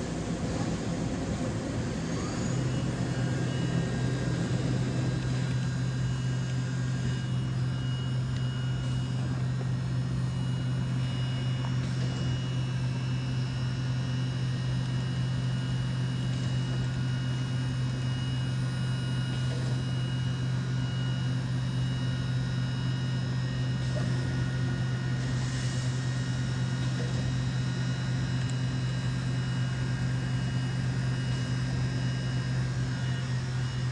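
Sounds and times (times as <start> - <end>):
high whine: 0.0 - 33.9
machining centre humming: 0.0 - 33.9.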